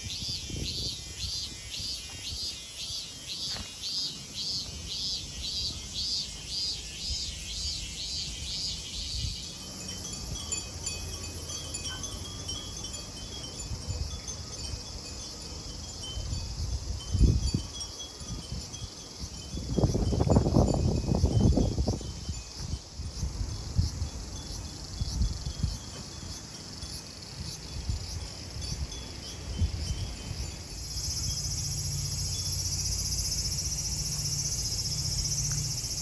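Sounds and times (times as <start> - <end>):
cicadas pulsing call: 0.0 - 36.0
steady high cicada buzz: 0.0 - 36.0.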